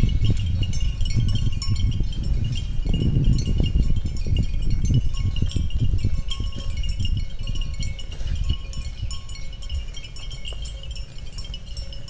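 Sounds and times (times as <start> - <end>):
light high tinkling: 0.0 - 12.0.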